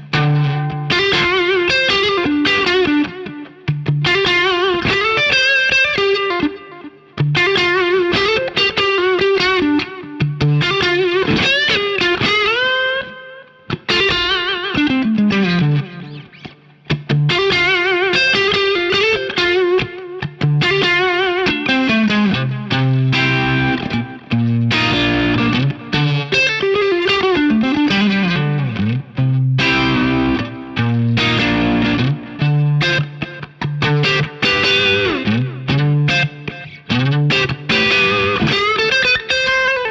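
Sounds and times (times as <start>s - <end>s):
electric guitar lead lines: 0.0s - 39.9s.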